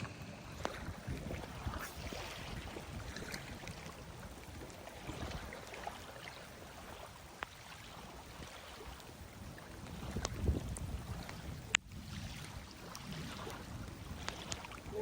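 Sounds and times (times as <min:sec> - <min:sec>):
wind gusting on microphone: 0:00.0 - 0:05.9, 0:07.9 - 0:15.0.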